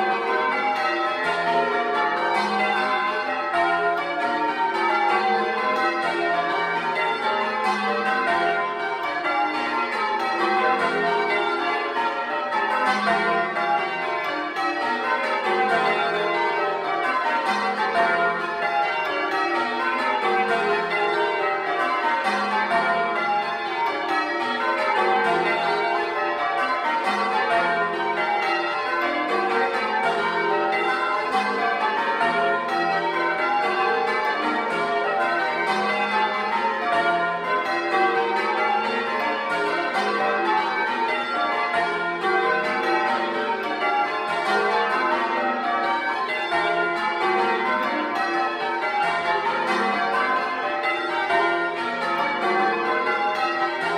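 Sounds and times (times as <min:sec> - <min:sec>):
church bells change ringing: 0:00.0 - 0:53.9.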